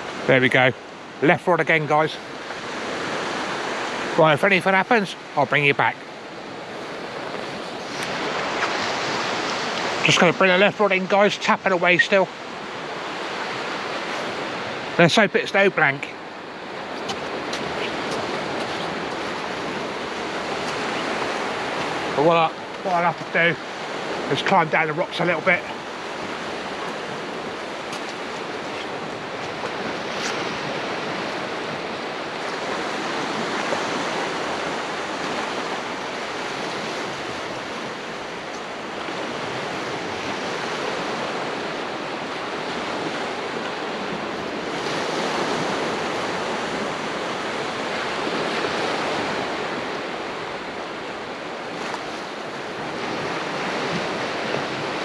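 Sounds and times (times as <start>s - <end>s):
sea waves washing onto shore: 0.0s - 55.0s.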